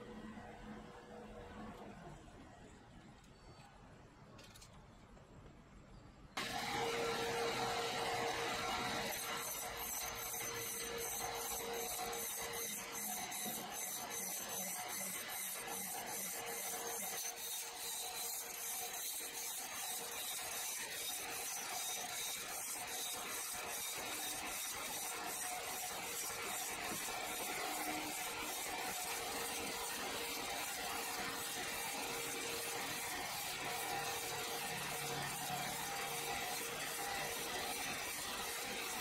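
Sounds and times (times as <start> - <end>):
band saw cutting log: 6.4 - 39.0.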